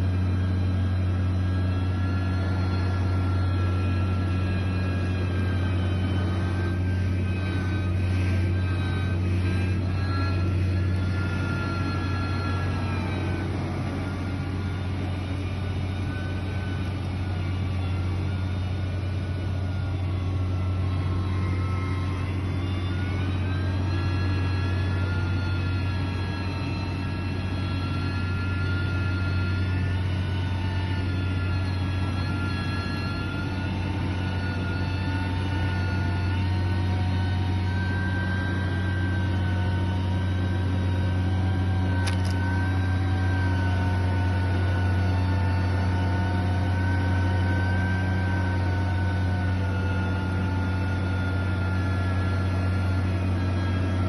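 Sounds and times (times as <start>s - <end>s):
construction machine engine humming: 0.0s - 54.0s
high whining tones: 0.0s - 54.0s.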